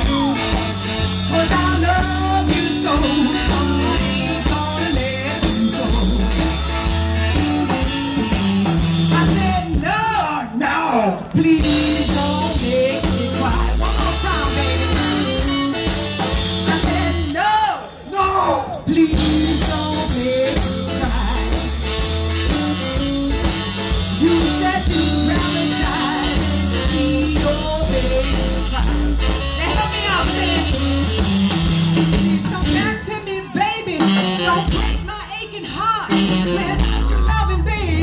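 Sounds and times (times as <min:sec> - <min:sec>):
live blues band playing: 0:00.0 - 0:38.0.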